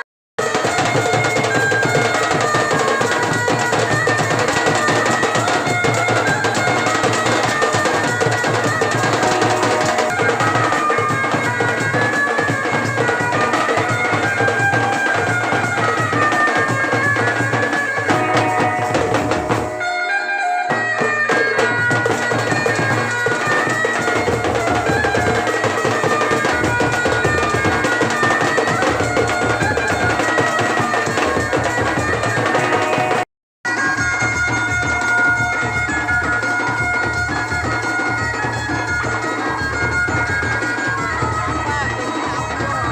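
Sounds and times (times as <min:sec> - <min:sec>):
reed wind instrument melody: 0:00.0 - 0:42.9
steady drumming: 0:00.4 - 0:20.1, 0:20.7 - 0:42.9.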